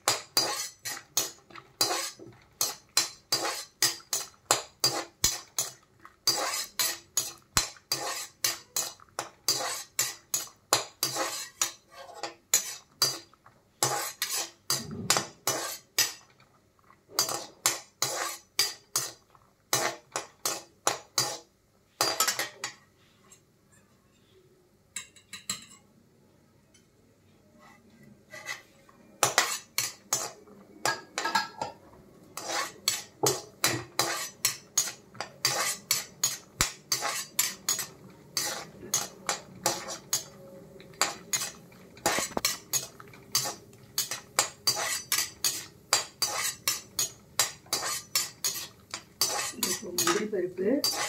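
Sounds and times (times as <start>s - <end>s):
spatula scraping metal pan: 0.0s - 16.5s, 17.1s - 23.4s, 27.6s - 51.0s.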